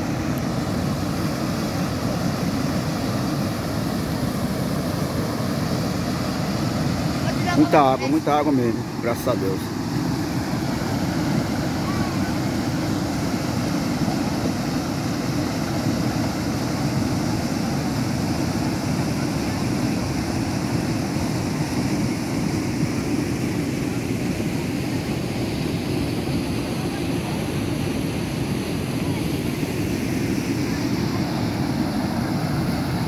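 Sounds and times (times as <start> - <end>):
floodwater rushing over rocks: 0.0 - 33.0.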